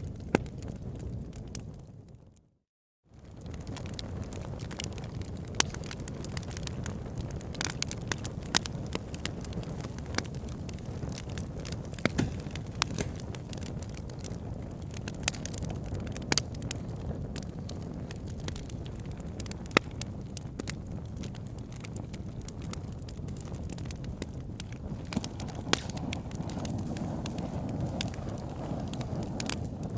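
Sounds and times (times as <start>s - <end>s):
wood fire crackling: 3.2s - 29.9s.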